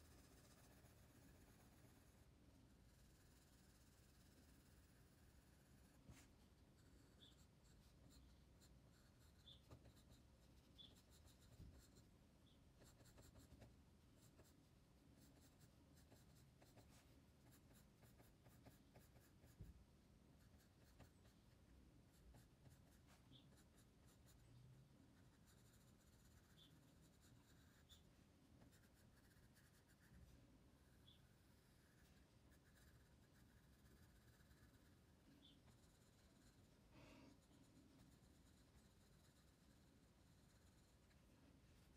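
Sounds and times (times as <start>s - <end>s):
pencil scratching on paper: 0.0s - 12.1s, 12.7s - 19.8s, 20.4s - 24.6s, 25.2s - 41.9s.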